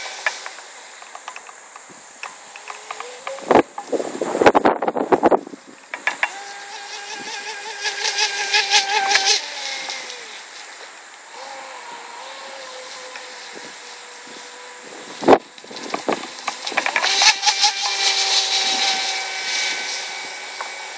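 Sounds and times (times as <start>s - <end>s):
electric boat motor whine: 0.0s - 5.1s, 6.0s - 20.9s.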